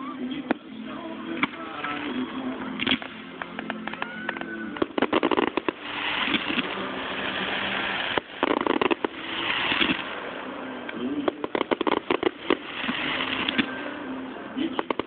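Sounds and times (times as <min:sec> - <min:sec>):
fireworks crackling: 0:00.2 - 0:15.0
fireworks pops and bangs: 0:01.4 - 0:13.9, 0:14.6 - 0:15.0.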